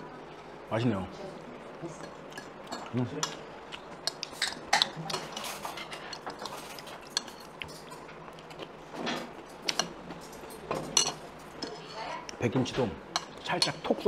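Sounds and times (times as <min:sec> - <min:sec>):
cutlery clinking against dishes: 0:02.0 - 0:12.1, 0:12.7 - 0:14.0.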